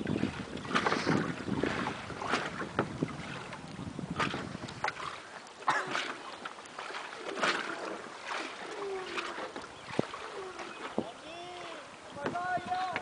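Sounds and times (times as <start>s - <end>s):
water splashing and lapping: 0.0s - 13.0s
wind gusts: 0.0s - 13.0s.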